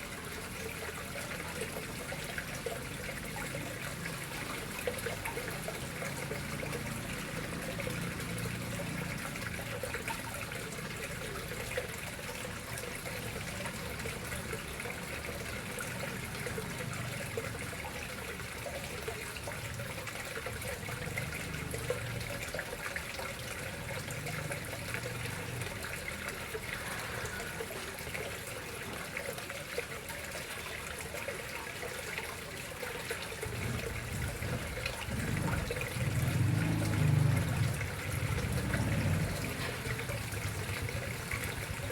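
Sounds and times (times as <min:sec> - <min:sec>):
water trickling into pond: 0:00.0 - 0:41.9.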